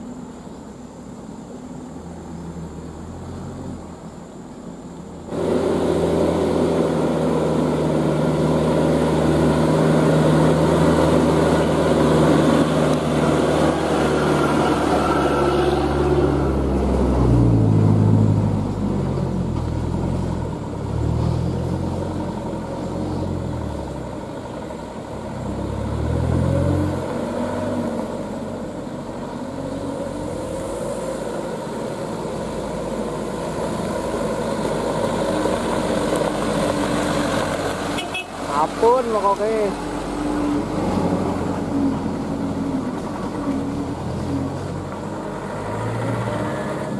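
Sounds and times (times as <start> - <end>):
truck diesel engines revving: 5.2 - 46.9.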